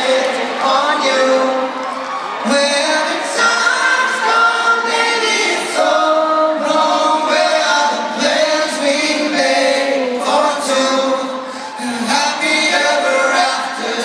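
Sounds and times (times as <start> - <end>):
voices singing a cappella: 0.0 - 14.0.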